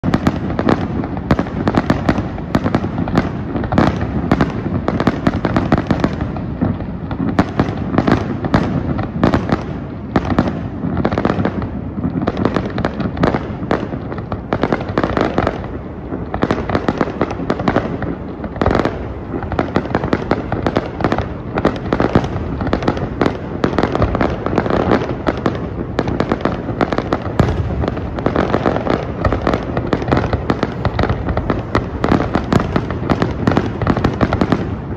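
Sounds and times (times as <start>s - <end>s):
fireworks bangs and booms: 0.0s - 34.9s
rumble of echoing explosions: 0.0s - 34.9s.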